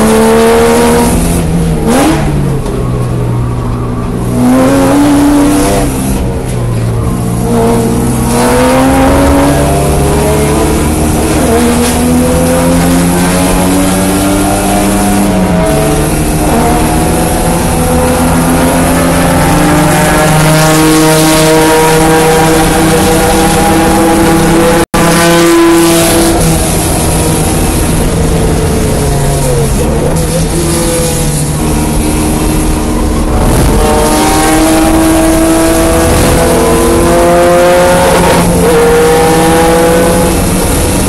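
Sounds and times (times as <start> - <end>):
race car engine accelerating: 0.0 - 41.0.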